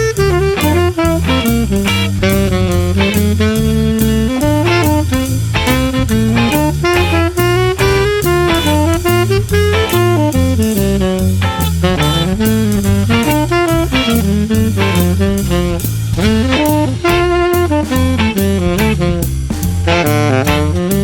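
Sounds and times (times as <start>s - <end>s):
bass line: 0.0s - 21.0s
drum kit: 0.0s - 21.0s
saxophone melody: 0.0s - 21.0s.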